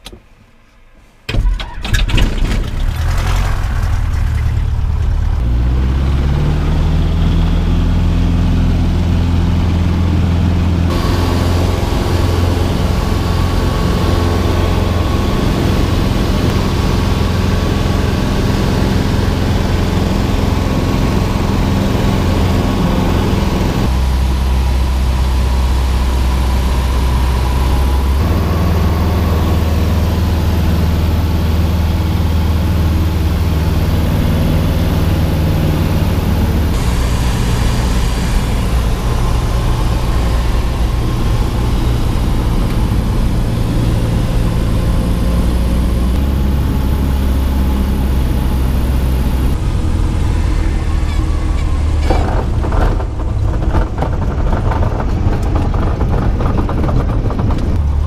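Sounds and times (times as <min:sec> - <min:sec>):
light aircraft engine droning: 0:03.4 - 0:58.0.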